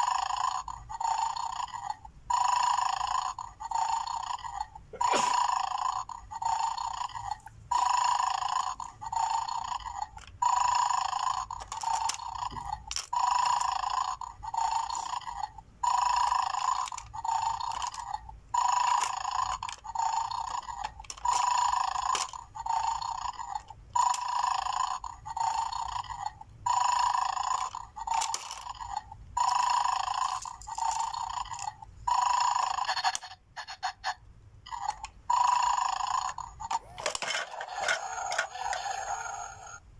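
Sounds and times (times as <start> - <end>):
electronic toy snoring: 0.0 - 39.9.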